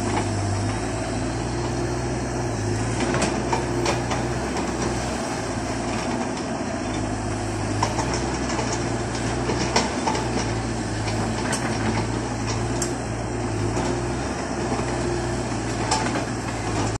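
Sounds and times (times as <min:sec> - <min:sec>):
diesel excavator engines running: 0:00.0 - 0:17.0.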